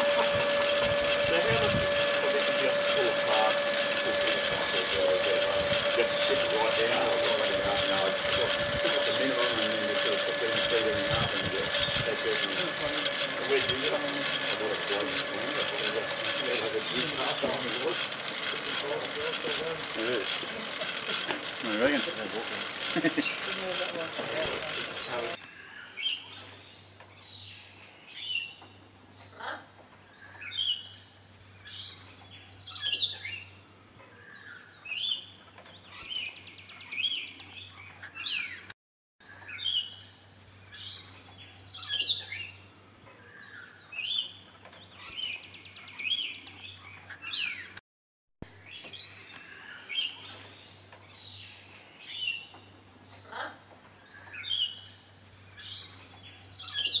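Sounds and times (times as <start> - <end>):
birds chirping and calling: 0.0 - 38.7, 39.3 - 47.8, 48.6 - 57.0.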